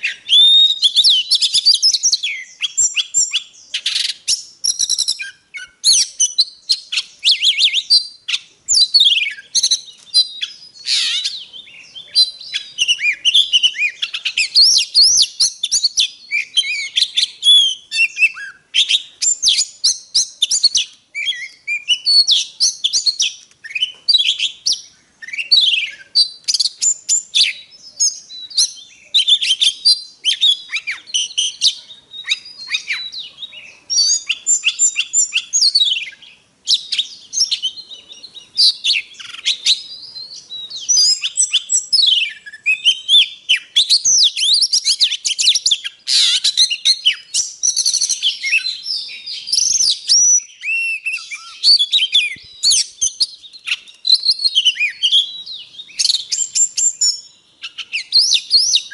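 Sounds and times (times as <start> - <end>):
bird singing whistles and trills: 0.0 - 58.9.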